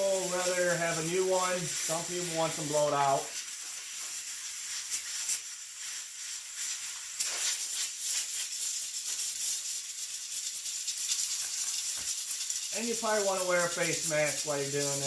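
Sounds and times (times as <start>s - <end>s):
compressed air hissing from hose: 0.0s - 15.0s.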